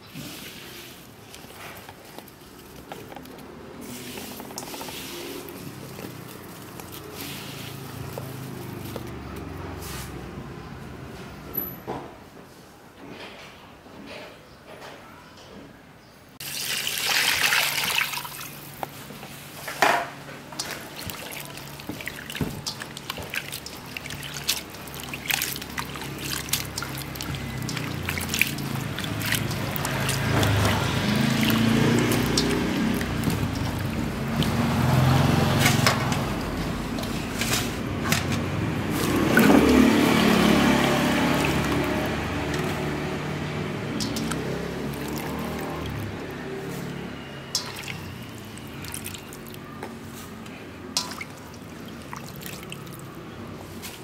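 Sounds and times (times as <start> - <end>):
water sloshing and splashing: 0.0 - 11.5, 16.4 - 54.0.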